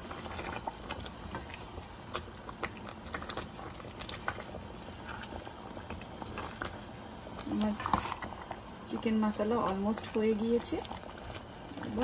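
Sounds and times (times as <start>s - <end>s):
spatula stirring in gravy: 0.0s - 12.0s.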